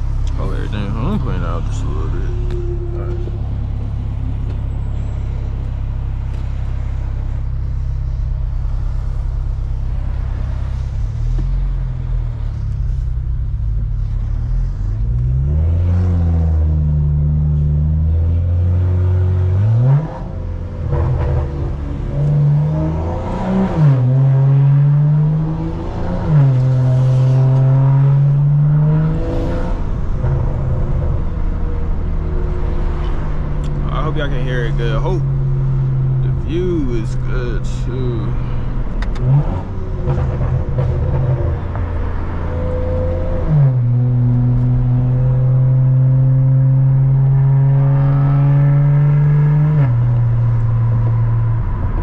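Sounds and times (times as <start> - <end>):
car engine accelerating through gears: 0.2 - 52.0.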